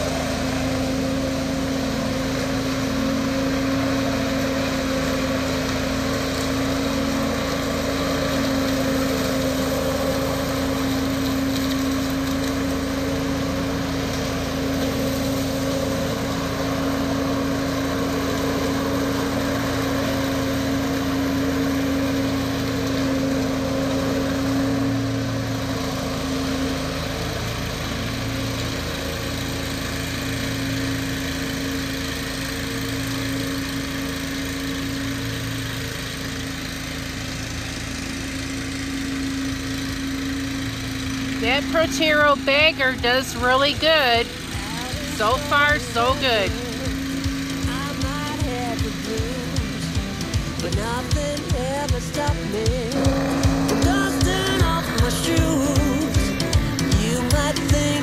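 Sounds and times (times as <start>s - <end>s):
lawn mower running: 0.0s - 58.0s.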